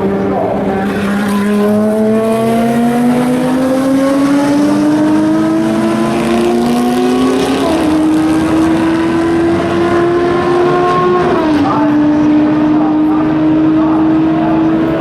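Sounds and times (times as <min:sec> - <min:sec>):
racing car engine accelerating: 0:00.0 - 0:15.0.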